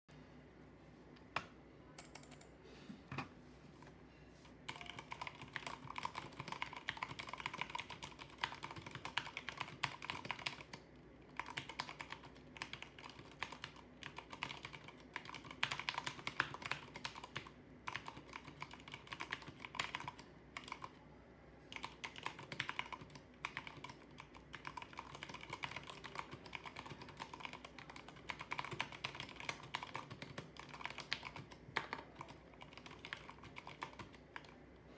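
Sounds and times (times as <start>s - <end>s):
mechanical keyboard typing: 2.0s - 2.5s, 4.7s - 21.0s, 21.7s - 34.6s.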